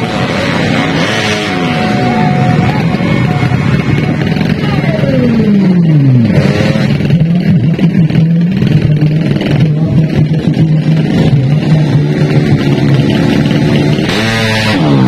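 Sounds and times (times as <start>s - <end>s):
motorbike engines: 0.0s - 15.0s.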